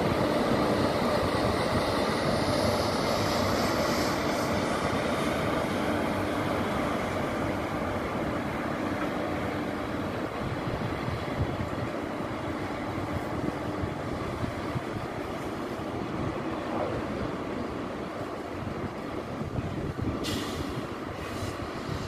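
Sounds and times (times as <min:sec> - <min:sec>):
locomotive steady hum: 0:00.0 - 0:22.0
train wheels rumbling on rails: 0:00.0 - 0:22.0.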